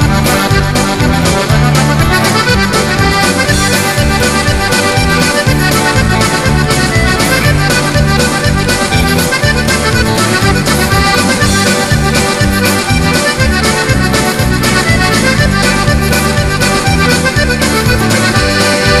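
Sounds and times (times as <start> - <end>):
button accordion playing: 0.0 - 19.0.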